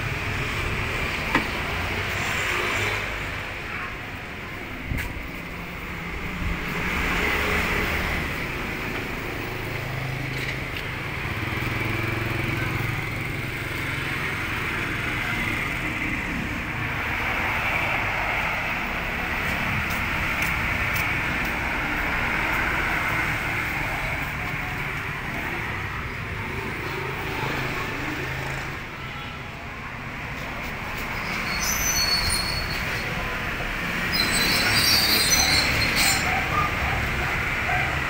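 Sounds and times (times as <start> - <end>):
street traffic rumble: 0.0 - 38.0.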